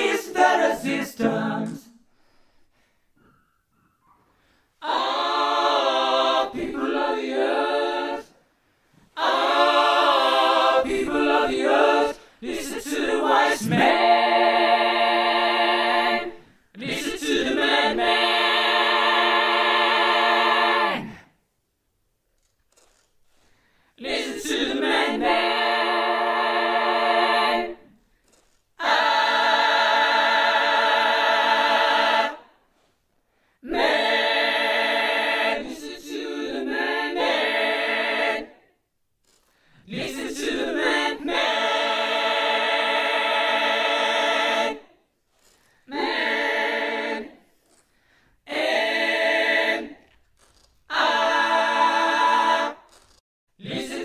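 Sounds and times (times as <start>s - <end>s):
a cappella vocal harmonies: 0.0s - 21.5s, 23.3s - 54.0s.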